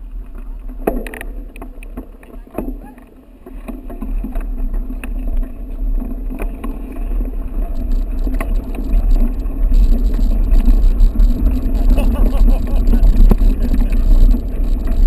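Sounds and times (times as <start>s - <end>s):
bike tyre noise: 0.0s - 15.0s
wind rumbling on microphone: 0.0s - 15.0s
bike clicks and rattles: 0.2s - 15.0s.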